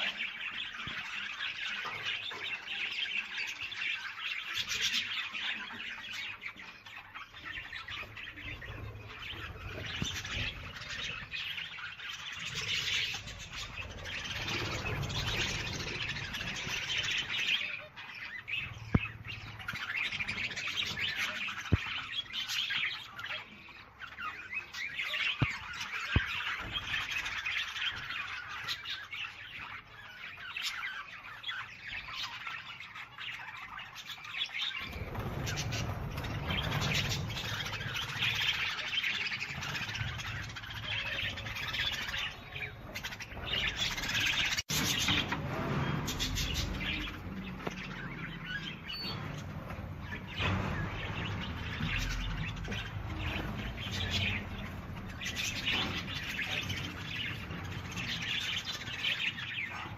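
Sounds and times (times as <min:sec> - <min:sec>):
many birds calling: 0:00.0 - 0:59.9.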